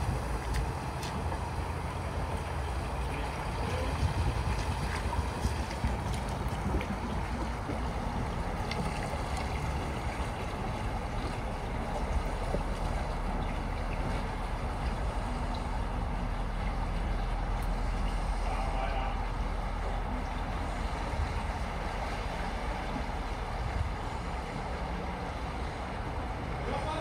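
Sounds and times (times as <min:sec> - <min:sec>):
vehicle engine low rumble: 0:00.0 - 0:27.0
water rushing and splashing: 0:00.0 - 0:27.0.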